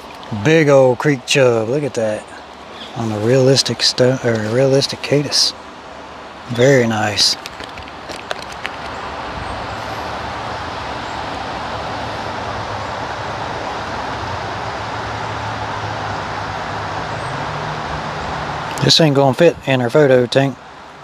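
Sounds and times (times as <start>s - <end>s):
water rushing in a creek: 0.0s - 21.0s.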